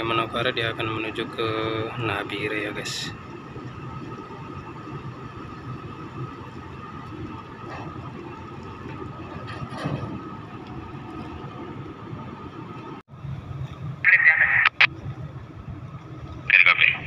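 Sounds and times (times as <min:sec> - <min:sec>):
ship engines rumbling: 0:00.0 - 0:17.0.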